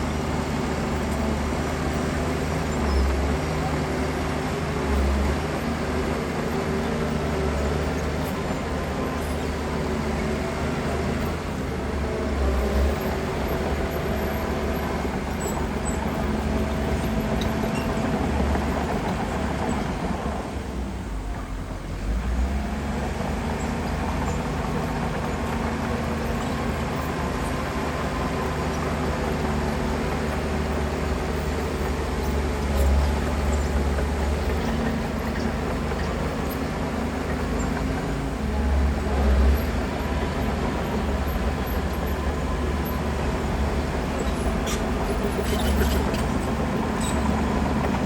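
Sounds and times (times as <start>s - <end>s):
diesel construction machinery running: 0.0s - 48.0s.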